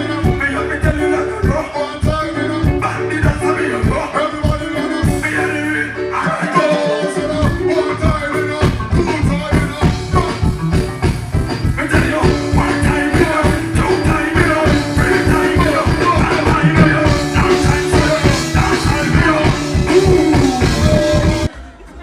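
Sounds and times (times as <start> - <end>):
reggae band music: 0.0 - 22.0.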